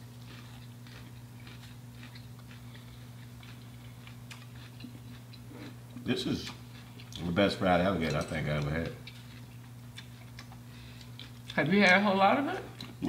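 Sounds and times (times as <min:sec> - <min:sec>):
crunchy chewing: 0:00.0 - 0:11.7.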